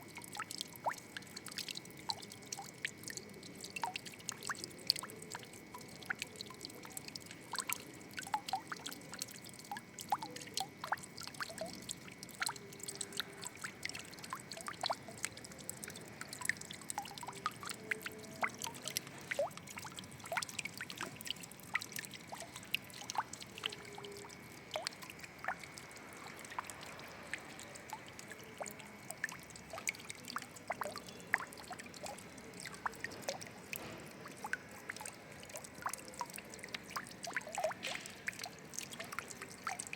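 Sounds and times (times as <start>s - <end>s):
water trickling: 0.0s - 39.9s
water drops plinking: 0.2s - 39.9s.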